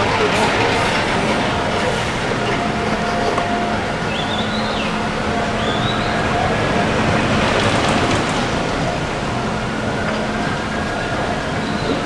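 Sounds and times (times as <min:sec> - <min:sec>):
amusement ride rumbling on track: 0:00.0 - 0:12.0.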